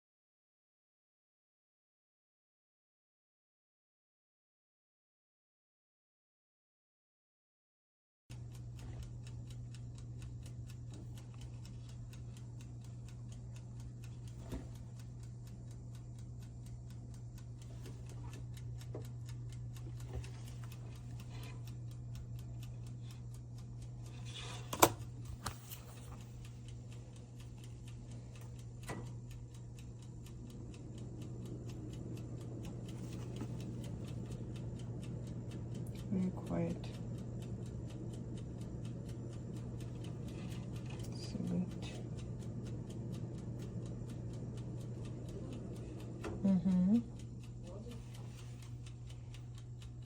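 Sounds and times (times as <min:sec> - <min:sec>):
mechanical timer ticking: 0:08.3 - 0:50.0
toaster oven humming: 0:08.3 - 0:50.0.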